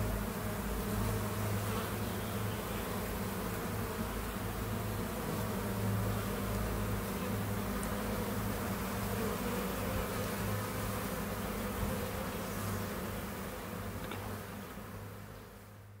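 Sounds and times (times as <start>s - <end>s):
bees humming in hive: 0.0s - 16.0s.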